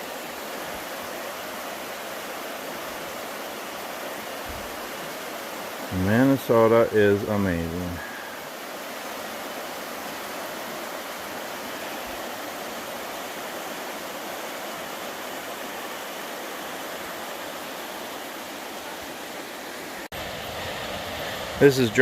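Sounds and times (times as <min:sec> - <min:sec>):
river rapids roaring: 0:00.0 - 0:22.0.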